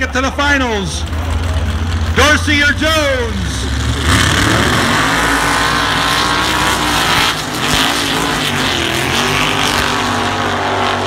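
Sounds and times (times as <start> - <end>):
off-road buggy engines at full throttle: 0.0 - 11.0.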